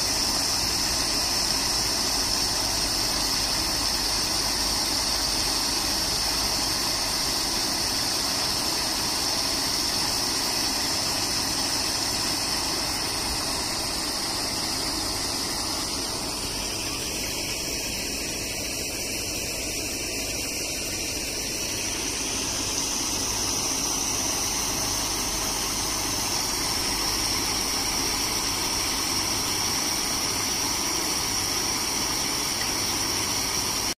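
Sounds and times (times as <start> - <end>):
mechanical motor hum: 0.0 - 34.0.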